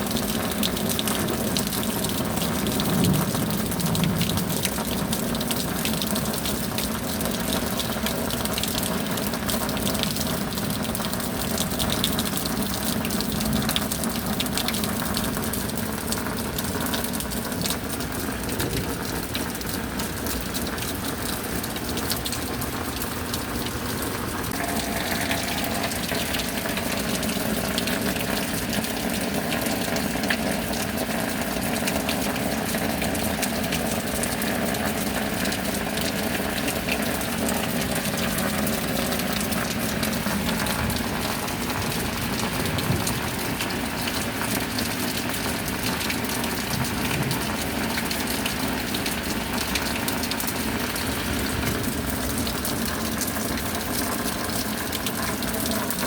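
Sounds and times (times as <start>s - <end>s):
heavy rain: 0.0s - 56.0s
water running and gushing: 0.0s - 56.0s.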